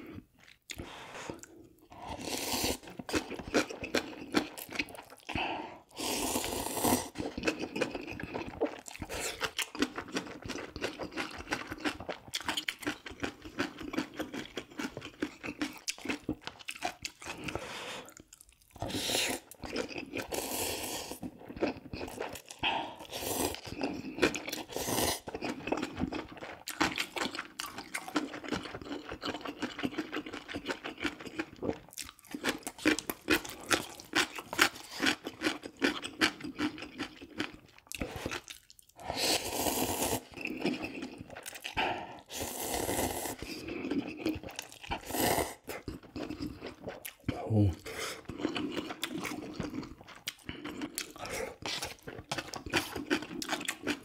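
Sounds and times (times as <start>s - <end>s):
person chewing and crunching: 0.0s - 54.0s.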